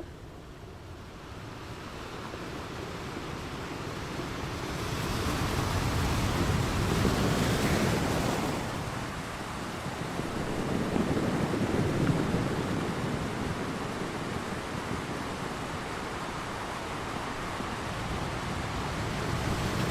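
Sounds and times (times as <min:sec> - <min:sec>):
ocean surf rushing: 0:00.0 - 0:19.9.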